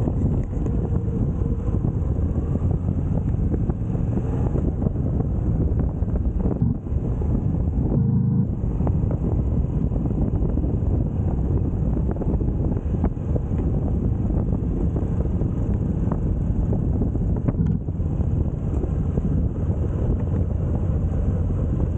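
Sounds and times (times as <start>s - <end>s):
motorcycle engine rumble: 0.0s - 21.9s
wind buffeting the microphone: 0.0s - 21.9s.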